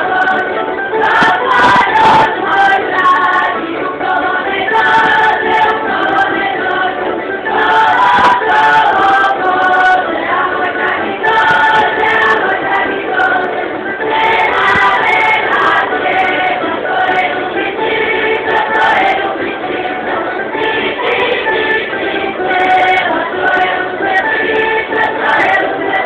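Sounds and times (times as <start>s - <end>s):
choir singing folk song: 0.0s - 26.0s.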